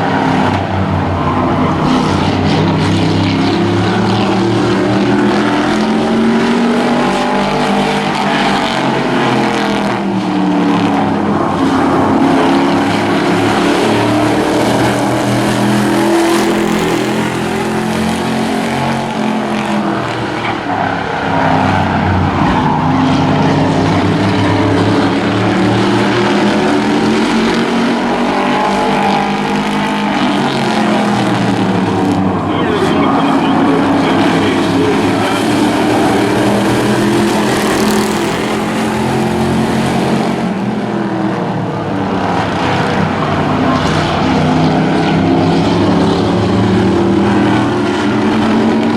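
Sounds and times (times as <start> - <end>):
race truck engines revving: 0.0 - 48.9.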